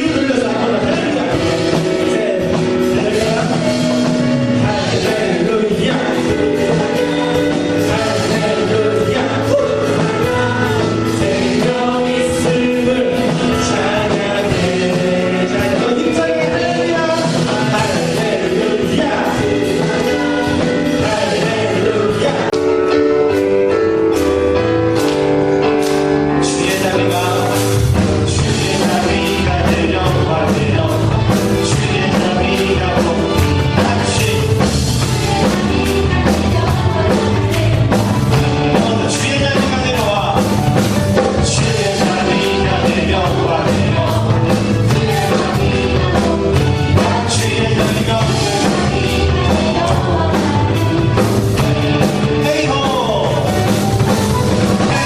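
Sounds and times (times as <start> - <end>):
steady drum beat: 0.0 - 22.7, 24.0 - 55.0
voices singing along: 0.0 - 22.8, 26.2 - 55.0
worship band playing: 0.0 - 55.0.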